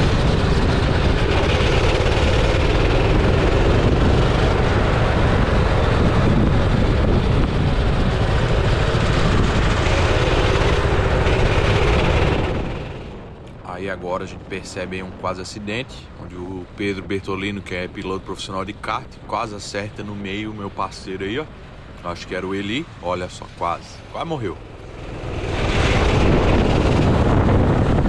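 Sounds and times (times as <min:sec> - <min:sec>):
dense rush of noise: 0:00.0 - 0:28.0.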